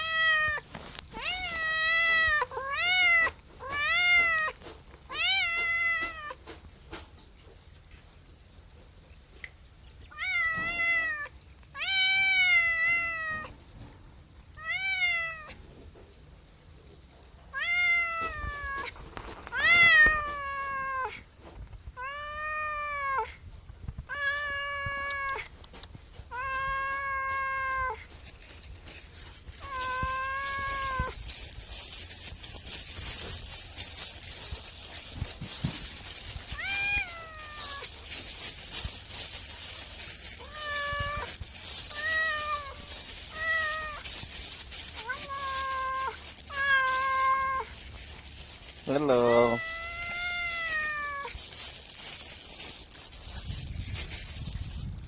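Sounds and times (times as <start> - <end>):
cat meowing: 0.0 - 6.6, 10.1 - 13.7, 14.5 - 15.7, 17.5 - 21.3, 22.0 - 28.6, 29.4 - 52.2.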